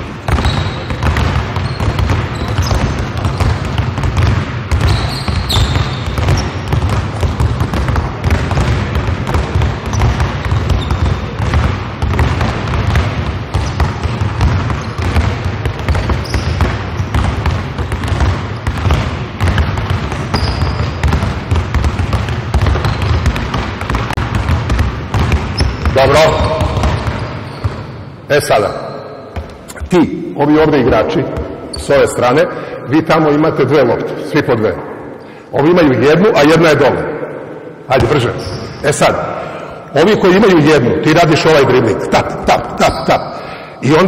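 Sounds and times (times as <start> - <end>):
basketballs bouncing on wooden floor: 0.0 - 33.4, 36.4 - 40.6.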